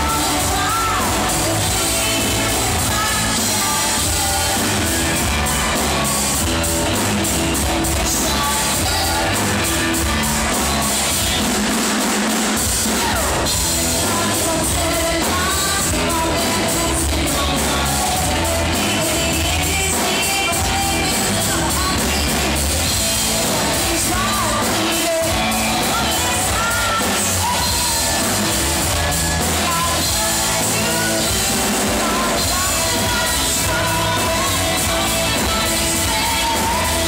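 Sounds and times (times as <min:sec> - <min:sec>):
bass: 0:00.0 - 0:37.0
drums: 0:00.0 - 0:37.0
rock band playing live: 0:00.0 - 0:37.0
woman singing lead: 0:00.0 - 0:37.0.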